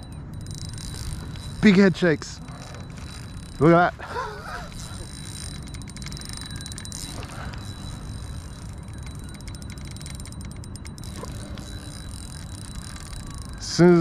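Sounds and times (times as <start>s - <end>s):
fishing reel ticking rapidly: 0.0s - 14.0s
steady low rumble: 0.0s - 14.0s.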